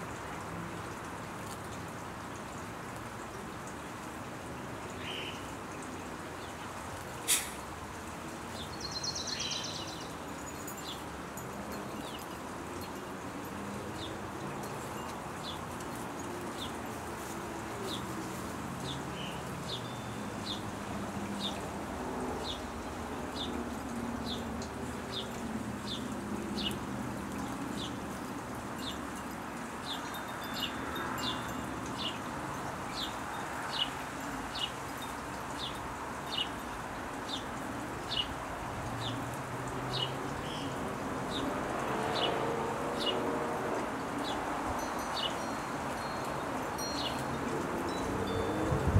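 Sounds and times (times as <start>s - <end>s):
outdoor background noise: 0.0s - 48.9s.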